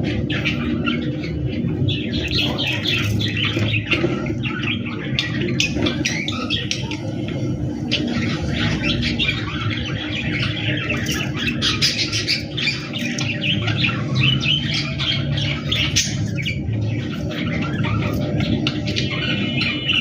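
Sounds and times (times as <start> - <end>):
budgerigars chattering: 0.0 - 20.0.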